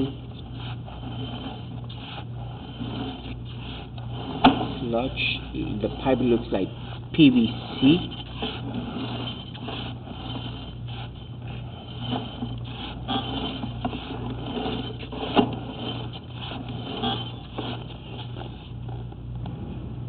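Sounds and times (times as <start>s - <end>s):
cable scraping and knocking in pipe: 0.0s - 19.2s
steady low hum: 0.0s - 20.0s.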